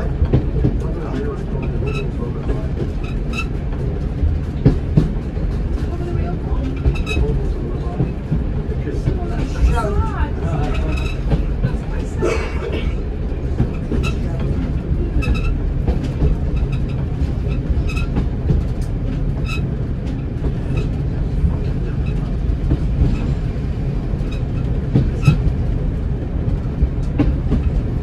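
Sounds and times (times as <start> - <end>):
low rumble of train engine: 0.0 - 28.0
wheels clicking on track: 0.0 - 28.0.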